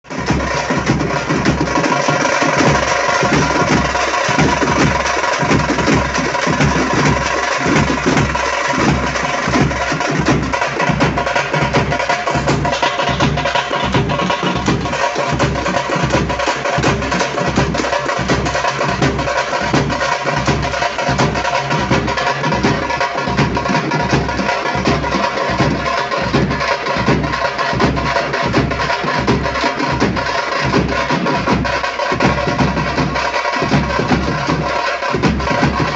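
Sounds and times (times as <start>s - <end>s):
frame drums beating: 0.1s - 35.9s.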